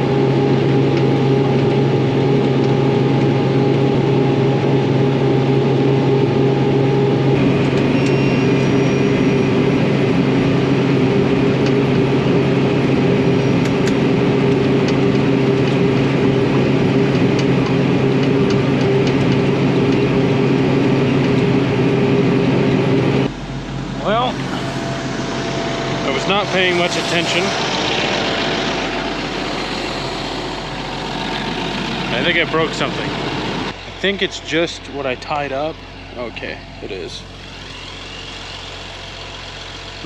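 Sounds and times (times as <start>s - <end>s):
crop sprayer engine drone: 0.0s - 40.0s.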